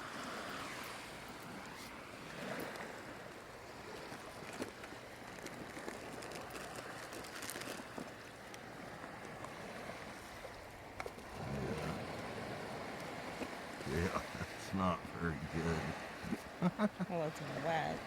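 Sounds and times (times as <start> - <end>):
ocean surf on a beach: 0.0 - 5.4, 6.8 - 18.0.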